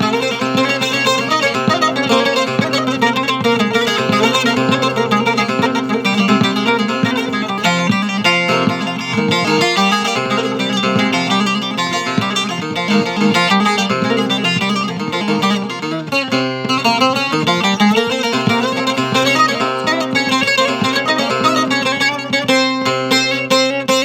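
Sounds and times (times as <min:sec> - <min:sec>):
long-necked lute plucked: 0:00.0 - 0:24.0.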